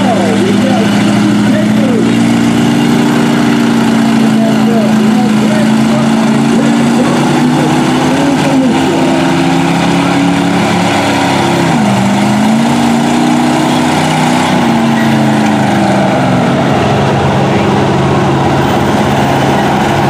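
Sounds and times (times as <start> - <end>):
truck engines running: 0.0 - 20.0.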